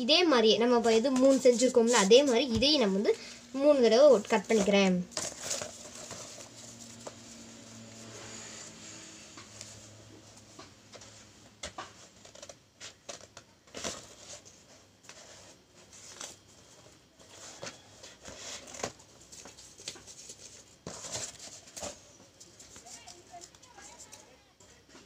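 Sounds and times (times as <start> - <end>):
cardboard scraping and rustling: 0.8 - 3.2, 4.0 - 24.2.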